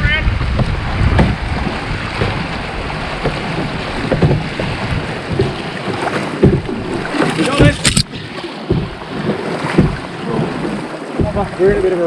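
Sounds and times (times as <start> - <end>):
paddle strokes splashing: 0.0 - 12.0
rushing whitewater: 0.0 - 12.0
wind buffeting microphone: 0.0 - 12.0.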